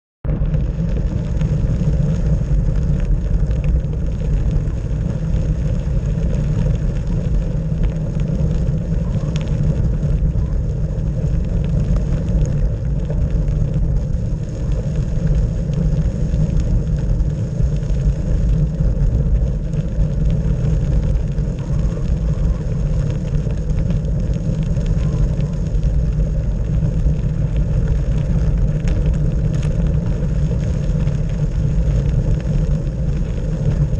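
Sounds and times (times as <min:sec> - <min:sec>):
bicycle tyres rumbling on gravel: 0:00.2 - 0:33.9.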